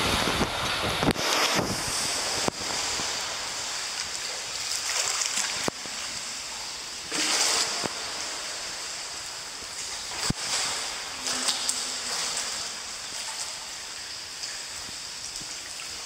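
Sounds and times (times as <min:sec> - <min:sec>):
pool water wash: 0:00.0 - 0:16.0.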